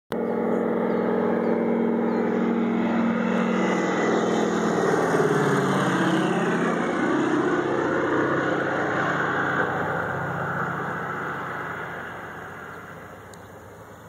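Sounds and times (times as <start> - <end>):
airplane engine and propeller drone: 0.1 - 14.0.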